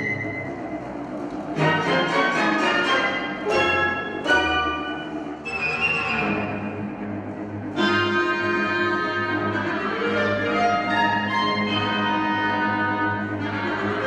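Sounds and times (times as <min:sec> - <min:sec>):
chamber orchestra playing: 0:00.0 - 0:14.0.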